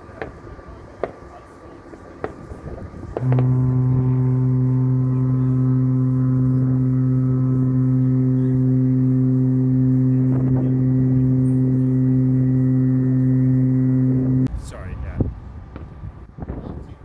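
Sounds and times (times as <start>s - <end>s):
ship's horn long deep blast: 0.8s - 14.5s.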